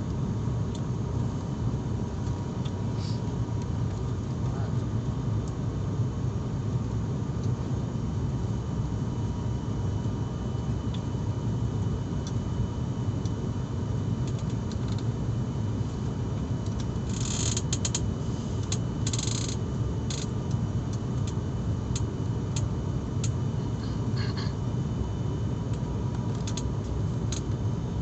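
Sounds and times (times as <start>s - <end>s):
airliner cabin drone: 0.0s - 28.0s.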